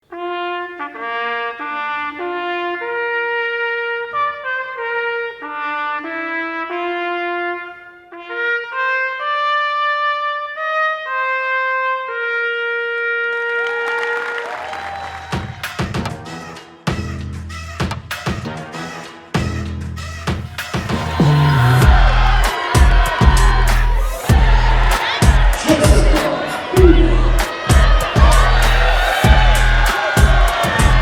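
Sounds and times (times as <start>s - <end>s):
trumpets playing sustained notes: 0.1s - 31.0s.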